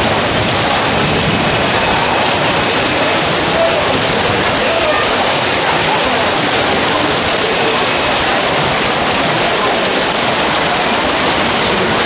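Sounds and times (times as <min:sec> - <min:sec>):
torrential rain: 0:00.0 - 0:12.0
water pouring off a roof: 0:00.0 - 0:12.0
water splashing into flooded ground: 0:00.0 - 0:12.0.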